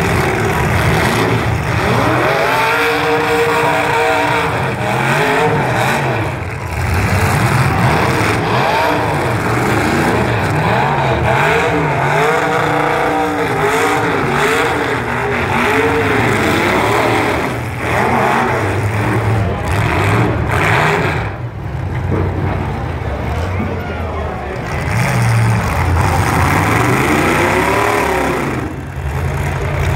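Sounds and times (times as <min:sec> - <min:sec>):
truck engines revving: 0:00.0 - 0:29.9.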